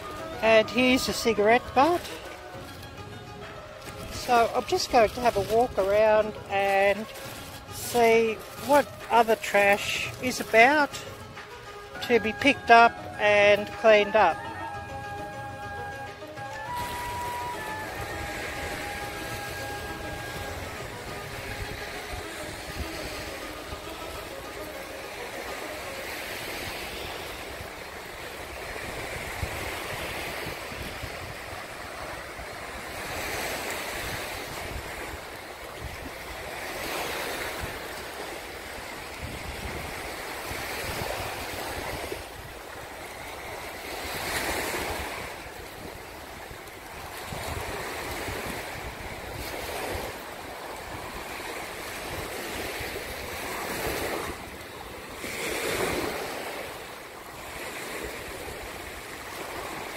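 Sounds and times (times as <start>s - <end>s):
small waves breaking on shore: 0.0s - 59.9s
wind buffeting microphone: 0.0s - 59.9s.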